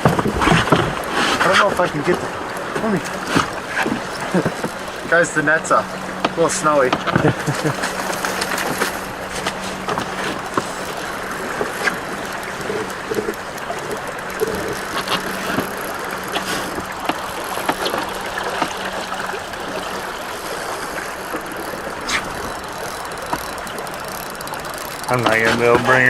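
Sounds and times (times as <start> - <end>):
low steady hum: 0.0 - 26.0
river current rushing: 0.0 - 26.0
small clicks: 0.0 - 26.0.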